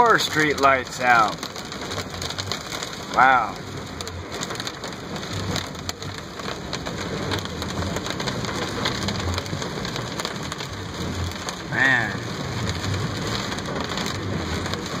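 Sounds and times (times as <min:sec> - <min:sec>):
heavy rain on a car roof: 0:00.0 - 0:15.0.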